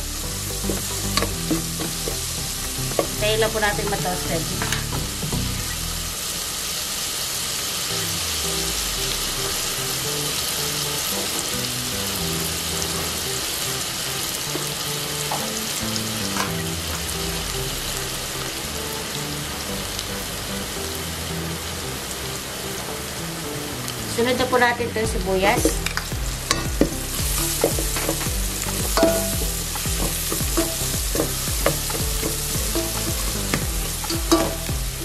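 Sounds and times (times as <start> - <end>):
garlic sizzling in oil: 0.0 - 35.0.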